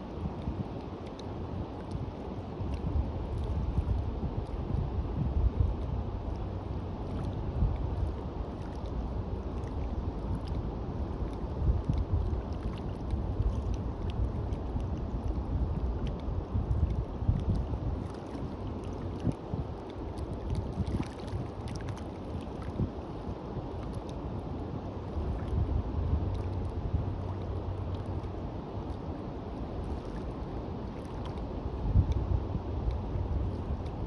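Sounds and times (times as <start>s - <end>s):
wind buffeting microphone: 1.6s - 8.6s, 9.2s - 30.2s, 31.5s - 34.0s.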